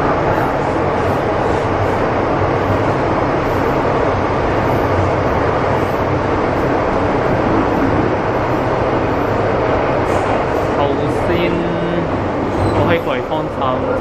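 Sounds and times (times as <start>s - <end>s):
low hum: 0.0s - 14.0s
train wheels rumbling: 0.0s - 14.0s.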